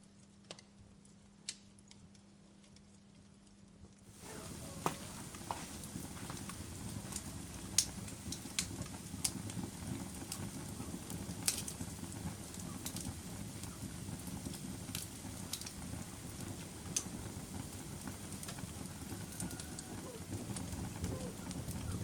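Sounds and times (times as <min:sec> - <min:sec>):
fire crackling and popping: 0:00.2 - 0:22.0
low rush of flames: 0:04.1 - 0:22.0.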